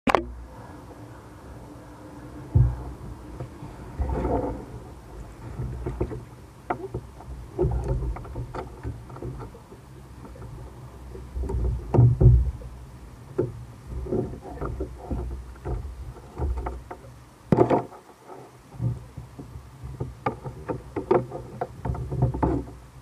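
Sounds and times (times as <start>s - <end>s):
knocks and clunks on kayak: 2.4s - 23.0s
water sloshing against kayak hull: 2.4s - 23.0s.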